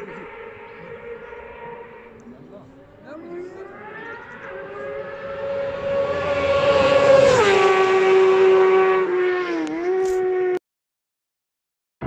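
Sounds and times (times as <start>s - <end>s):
racing motorcycle engine howl: 0.0s - 10.6s.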